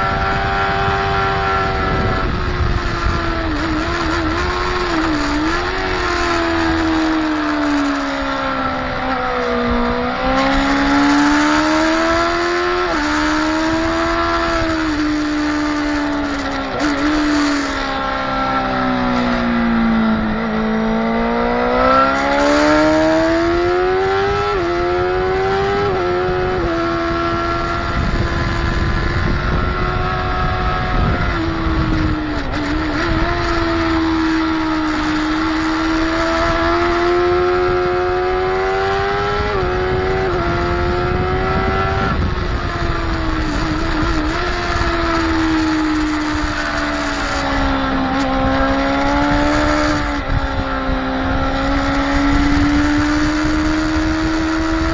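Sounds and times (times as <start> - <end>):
motorcycle engine at speed: 0.0 - 54.9
rushing wind noise: 0.0 - 54.9.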